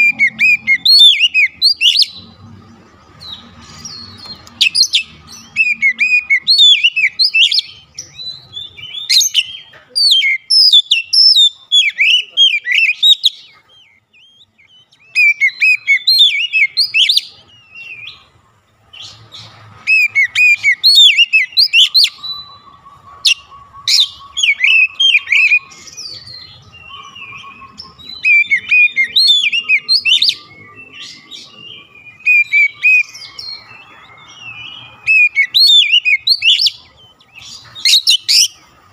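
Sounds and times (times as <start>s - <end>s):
bird singing high sweeping notes: 0.0s - 9.6s, 10.2s - 38.9s.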